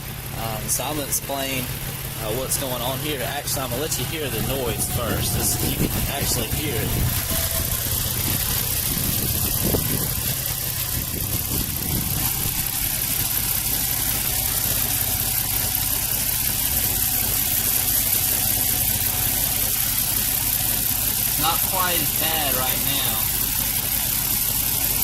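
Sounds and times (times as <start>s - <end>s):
car engine idling with misfires: 0.0s - 25.0s.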